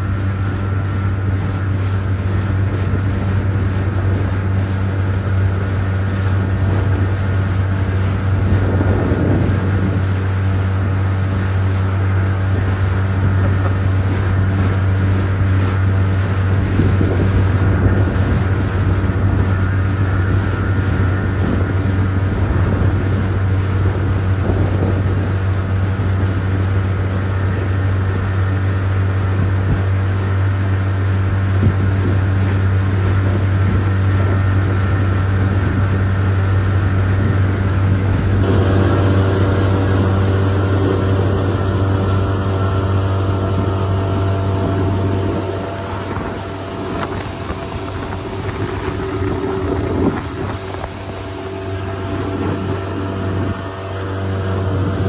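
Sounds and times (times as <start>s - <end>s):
outboard motor droning: 0.0s - 55.0s.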